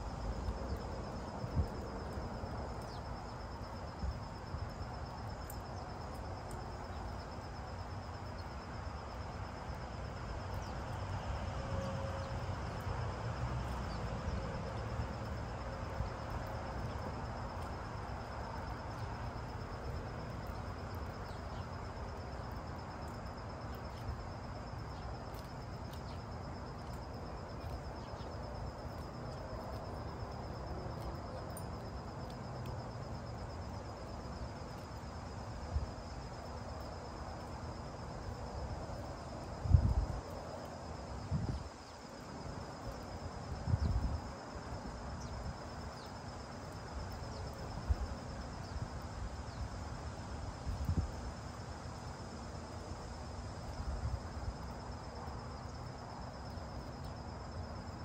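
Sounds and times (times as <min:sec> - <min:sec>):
high-pitched insect trill: 0:00.0 - 0:58.0
outdoor background hiss: 0:00.0 - 0:58.0.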